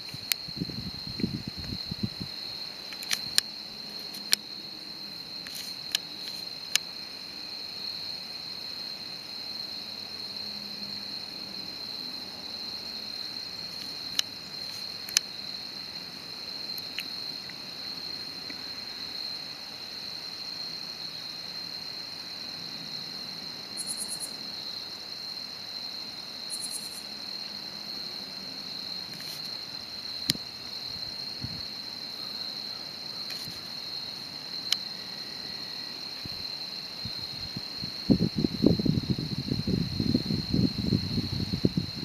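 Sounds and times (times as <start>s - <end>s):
cricket chorus trilling: 0.0s - 42.0s.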